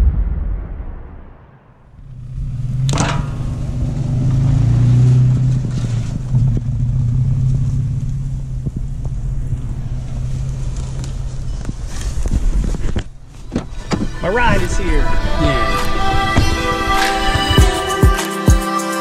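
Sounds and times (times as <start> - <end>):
deep rumble: 0.0 - 17.6
truck engine running: 2.0 - 17.8.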